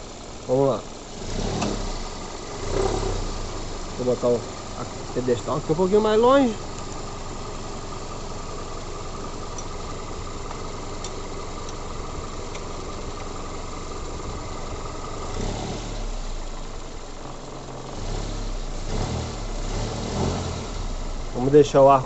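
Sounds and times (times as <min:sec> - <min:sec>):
car engine idling with whine: 0:00.0 - 0:22.0.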